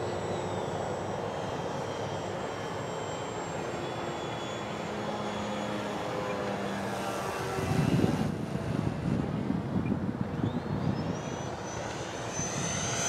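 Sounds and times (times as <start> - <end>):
ducted fan rushing whine: 0.0 - 13.0.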